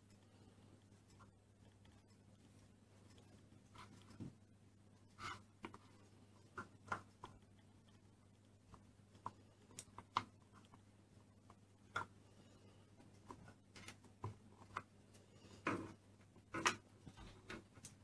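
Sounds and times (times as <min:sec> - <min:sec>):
faint steady low hum: 0:00.0 - 0:18.0.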